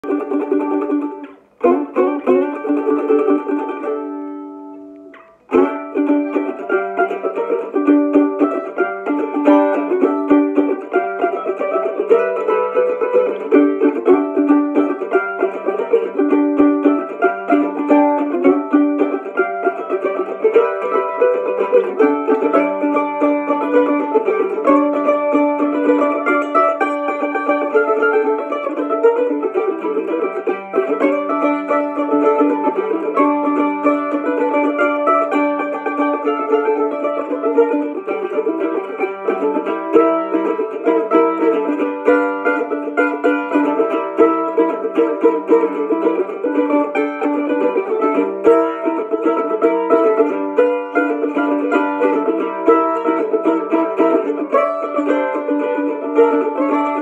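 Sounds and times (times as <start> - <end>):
mandolin fast picking: 0.0 - 57.0.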